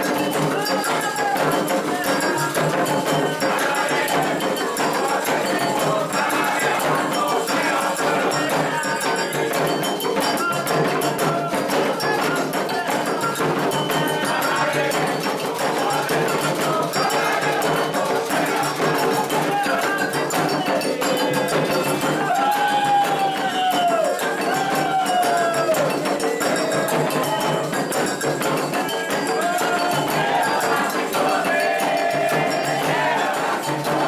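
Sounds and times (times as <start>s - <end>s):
hand drums playing: 0.0s - 34.0s
voices singing a chant: 0.0s - 34.0s.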